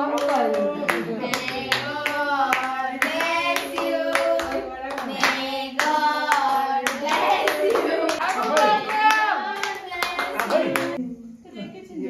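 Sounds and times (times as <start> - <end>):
people clapping in time: 0.0 - 11.0
group singing a celebration song: 0.0 - 11.3.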